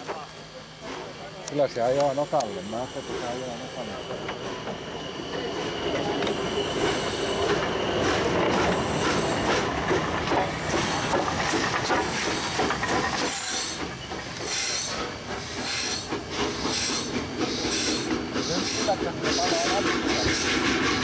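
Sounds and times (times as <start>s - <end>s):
steam hissing: 0.1s - 21.0s.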